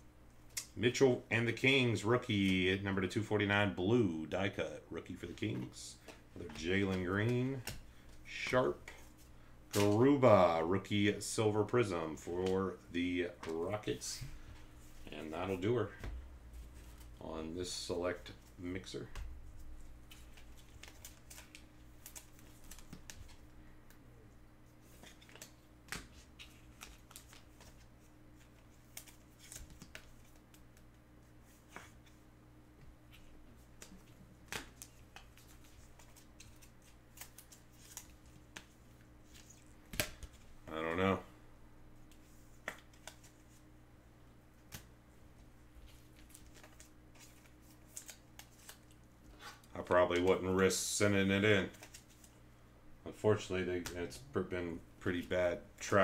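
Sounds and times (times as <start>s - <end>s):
low steady hum: 0.0s - 56.0s
trading cards rustling and clicking: 5.0s - 24.0s, 24.7s - 32.2s, 33.0s - 41.2s, 42.0s - 43.6s, 45.8s - 50.4s, 51.0s - 52.4s, 53.1s - 56.0s.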